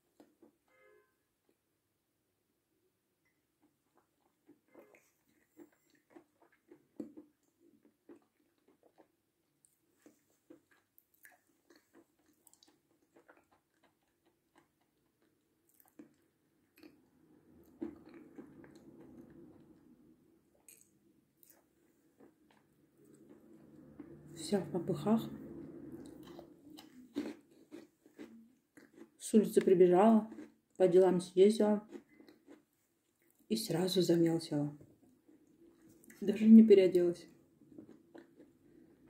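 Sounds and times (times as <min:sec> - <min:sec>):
chewing crisp meringue: 0:00.0 - 0:00.6, 0:03.2 - 0:33.9, 0:34.8 - 0:39.0.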